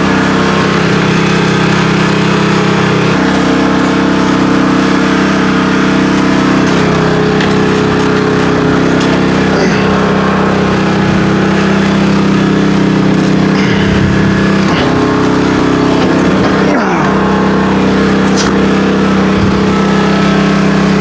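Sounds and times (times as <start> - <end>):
large engine running: 0.0 - 21.0.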